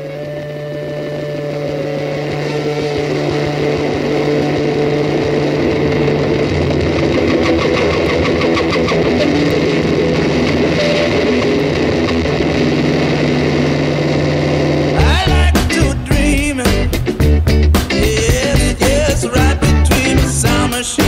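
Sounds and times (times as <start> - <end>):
engine running: 0.0 - 20.9.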